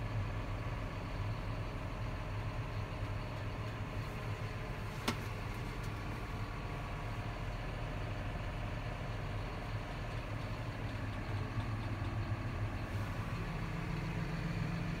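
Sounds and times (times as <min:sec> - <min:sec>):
tractor engine humming: 0:00.0 - 0:15.0.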